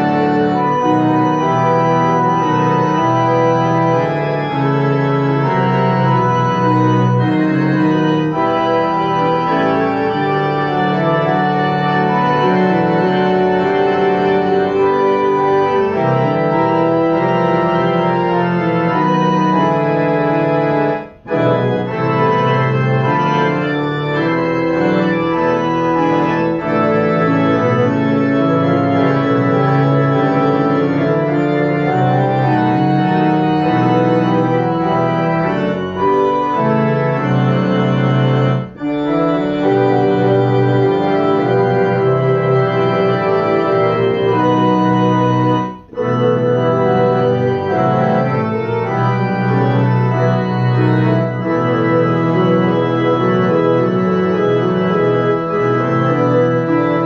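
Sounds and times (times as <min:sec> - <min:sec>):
organ chords on digital piano: 0:00.0 - 0:57.0.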